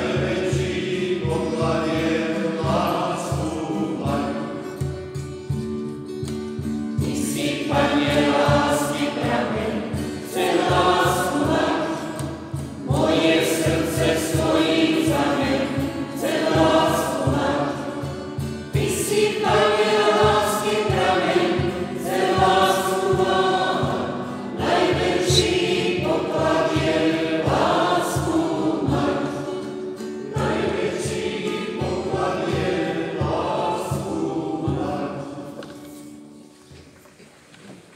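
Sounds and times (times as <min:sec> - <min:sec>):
choir singing: 0:00.0 - 0:05.2, 0:06.6 - 0:36.4.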